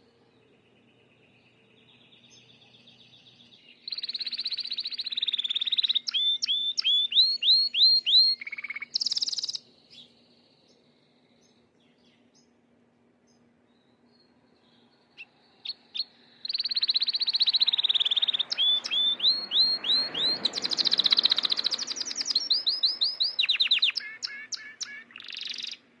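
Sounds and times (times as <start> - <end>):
canary singing trills: 0.0 - 12.5, 14.0 - 25.9.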